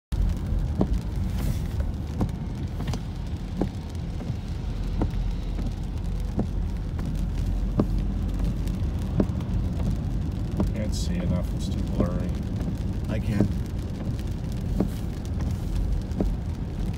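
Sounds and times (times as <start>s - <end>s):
car engine and tyres rumbling: 0.1s - 16.9s
regular clicking: 0.6s - 16.9s.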